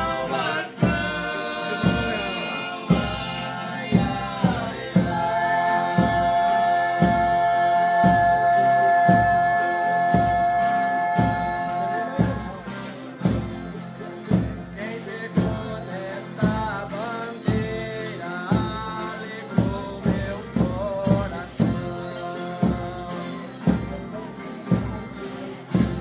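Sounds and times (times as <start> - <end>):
drum beating: 0.0 - 26.0
man singing: 0.0 - 26.0
strummed guitar and viola: 0.0 - 26.0
voices holding a long note: 0.0 - 26.0.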